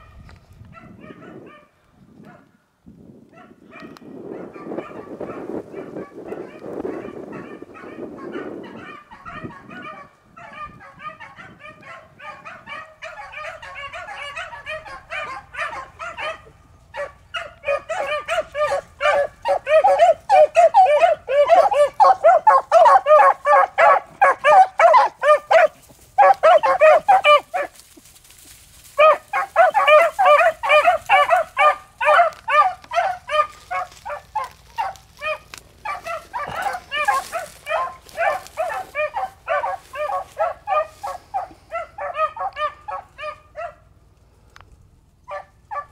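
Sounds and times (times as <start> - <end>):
pack of hounds baying: 3.4 - 44.2, 45.2 - 45.9.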